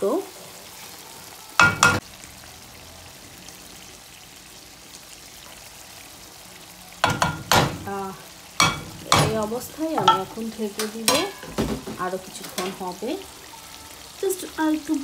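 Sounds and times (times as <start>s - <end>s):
curry sizzling in pot: 0.0s - 15.0s.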